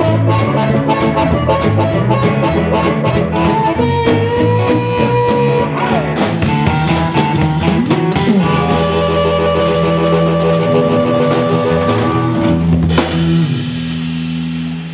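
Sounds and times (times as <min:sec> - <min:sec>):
drum kit: 0:00.0 - 0:14.9
rock guitar with bent notes: 0:00.0 - 0:14.9.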